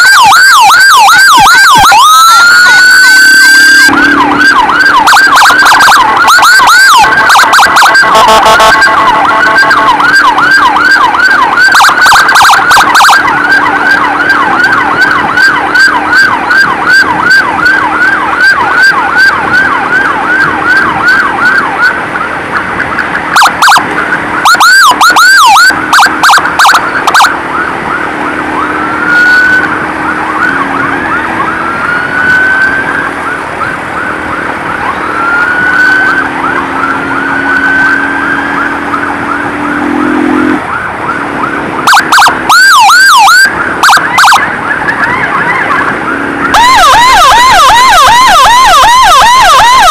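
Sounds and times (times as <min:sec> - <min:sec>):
emergency vehicle siren: 0:00.0 - 0:49.9.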